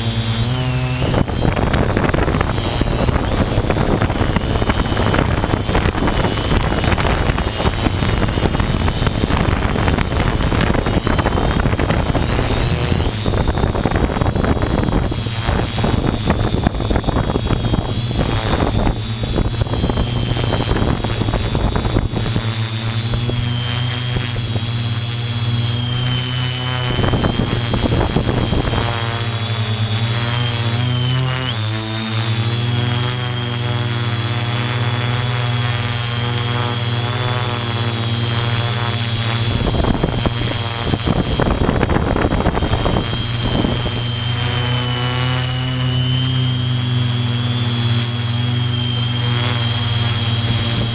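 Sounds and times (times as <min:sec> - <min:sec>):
drone motors humming and whining: 0:00.0 - 0:50.9
wind gusts on microphone: 0:00.0 - 0:50.9.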